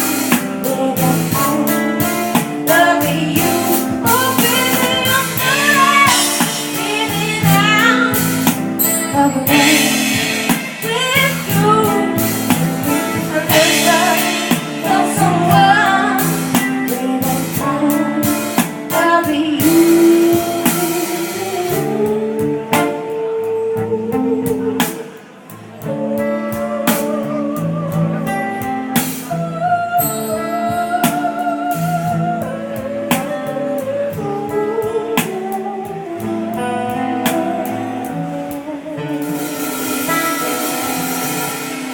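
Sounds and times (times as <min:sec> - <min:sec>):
drums: 0:00.0 - 0:41.9
guitar: 0:00.0 - 0:41.9
person singing: 0:00.0 - 0:41.9.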